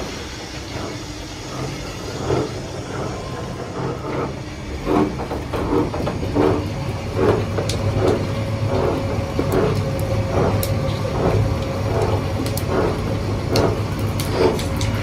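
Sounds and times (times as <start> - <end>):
rhythmic churning pulse: 0.0 - 14.9
mixing mill rollers humming: 0.0 - 15.0.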